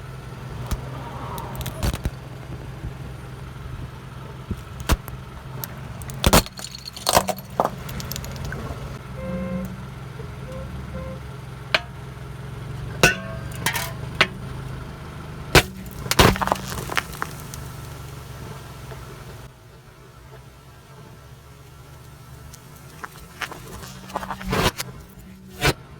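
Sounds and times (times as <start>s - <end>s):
objects cracking under tyres: 0.0s - 10.4s, 11.5s - 19.5s, 20.3s - 25.9s
car engine idling: 0.0s - 25.9s.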